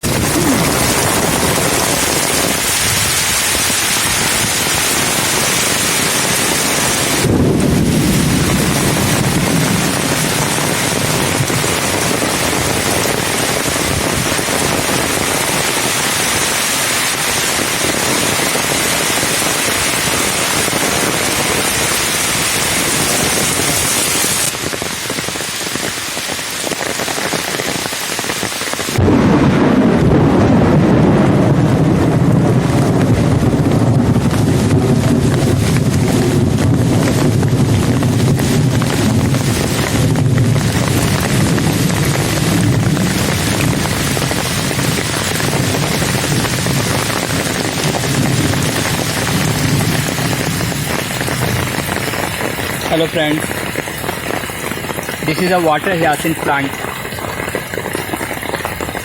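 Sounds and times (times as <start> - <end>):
thunder rumbling: 0.0 - 28.0, 28.6 - 59.0
heavy rain pouring: 0.0 - 59.0.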